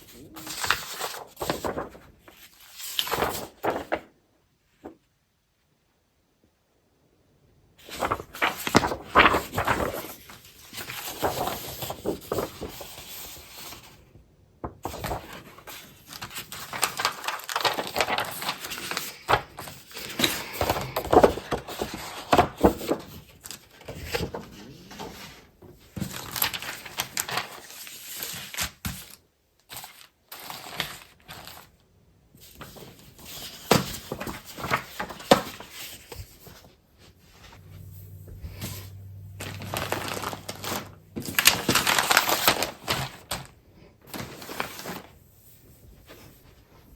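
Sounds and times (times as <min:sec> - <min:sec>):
paper and packaging rustling: 0:00.0 - 0:04.2, 0:07.8 - 0:14.0, 0:14.7 - 0:31.7, 0:32.4 - 0:46.9.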